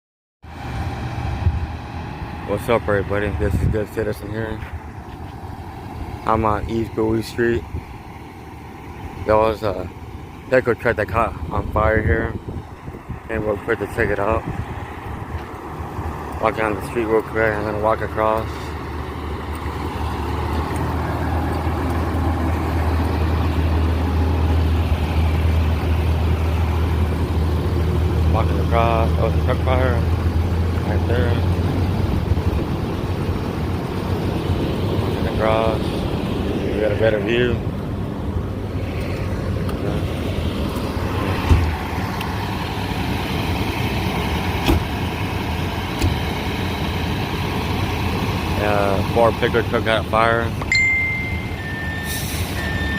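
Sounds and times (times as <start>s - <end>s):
street noise: 0.4s - 52.9s
vehicle engine idling: 0.5s - 52.9s.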